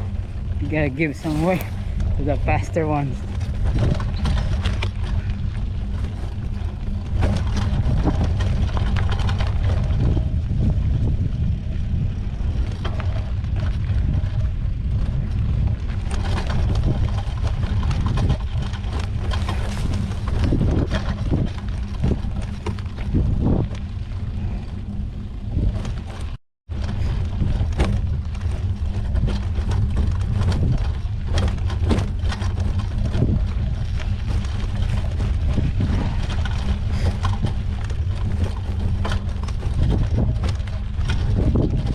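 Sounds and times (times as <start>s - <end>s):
bike clicks and rattles: 0.0s - 41.9s
wind rumbling on microphone: 0.0s - 41.9s.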